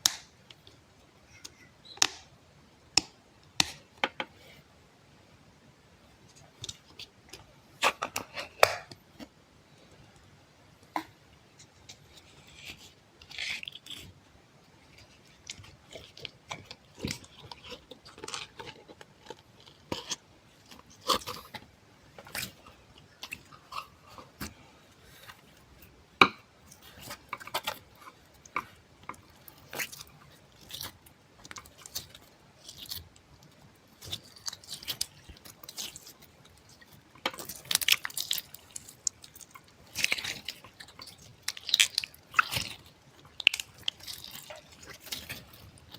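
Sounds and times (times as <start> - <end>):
soft crunching crackles: 6.0 - 45.9.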